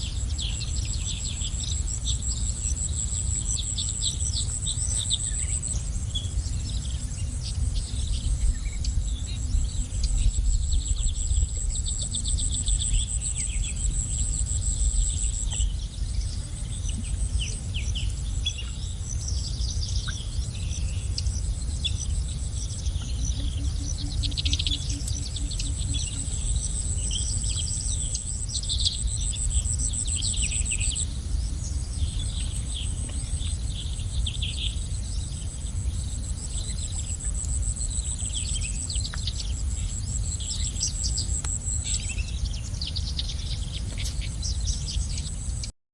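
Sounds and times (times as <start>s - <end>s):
high insect trill: 0.0s - 45.6s
low background rumble: 0.0s - 45.7s
small birds chirping: 0.0s - 45.7s.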